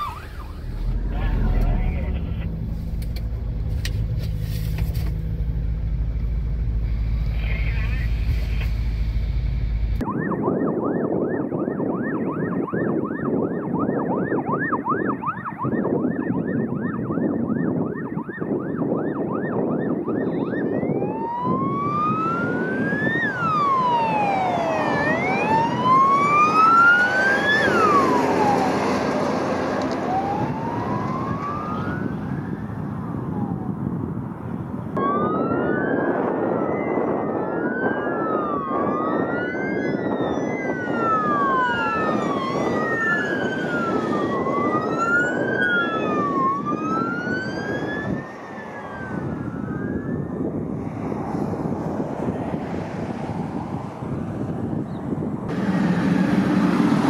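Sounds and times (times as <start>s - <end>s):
fire truck sirens: 0.0s - 3.2s, 9.9s - 57.0s
truck engine and tyre noise: 0.0s - 57.0s.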